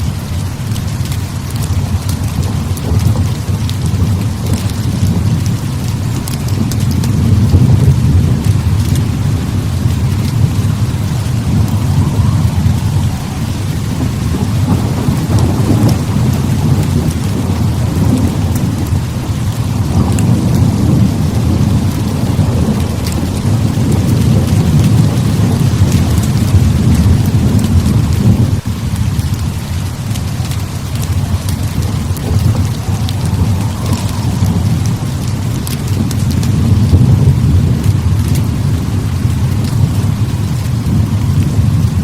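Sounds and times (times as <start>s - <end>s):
heavy rain hiss: 0.0s - 42.0s
rolling thunder rumble: 0.0s - 42.0s.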